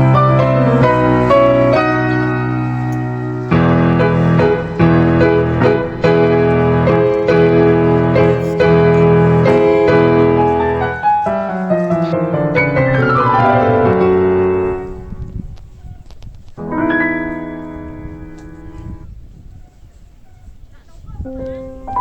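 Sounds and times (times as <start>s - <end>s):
piano chords: 0.0s - 15.6s, 16.6s - 19.2s, 21.2s - 22.0s.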